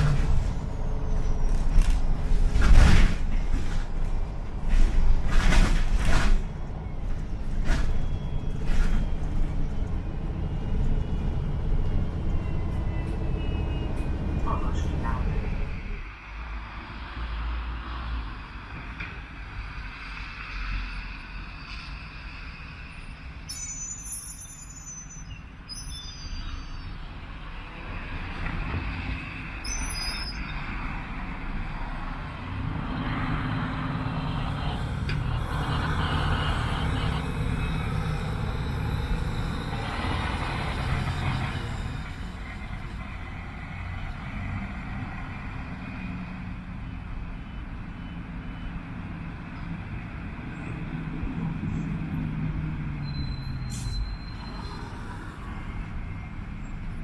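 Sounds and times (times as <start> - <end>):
bus engine driving past: 0.0 - 24.7, 26.4 - 57.0.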